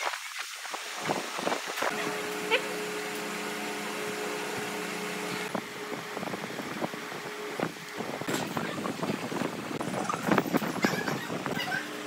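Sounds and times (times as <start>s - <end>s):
motor hum: 1.0s - 12.0s.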